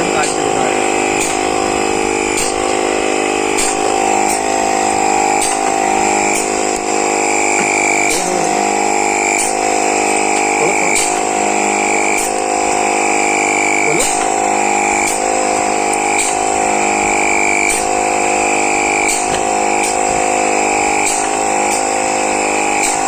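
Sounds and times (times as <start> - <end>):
air pump buzzing drone: 0.0 - 23.0.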